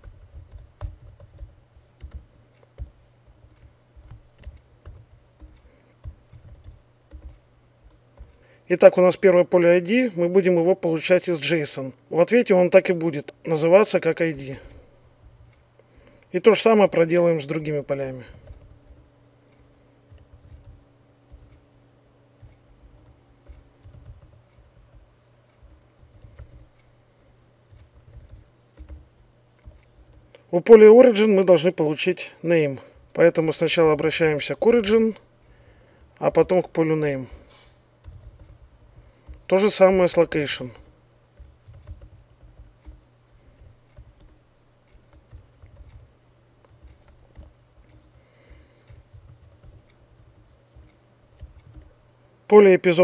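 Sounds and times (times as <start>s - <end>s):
faint keyboard typing: 0.0s - 9.4s, 13.8s - 31.1s, 32.8s - 52.1s.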